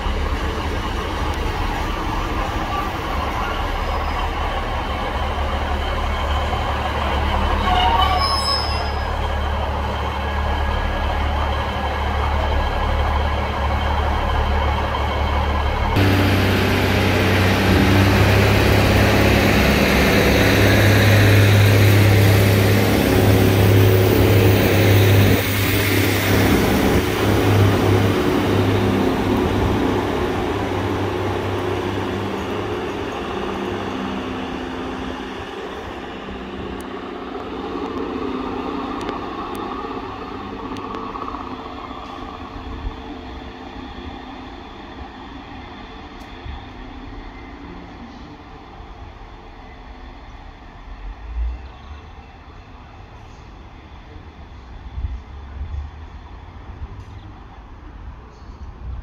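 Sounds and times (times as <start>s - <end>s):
diesel train engines idling: 0.0s - 8.2s, 8.8s - 59.0s.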